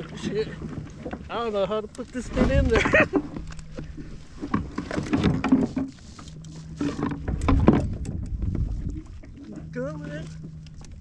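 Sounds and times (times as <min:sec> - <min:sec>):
rustling scraping and knocks: 0:00.0 - 0:09.4.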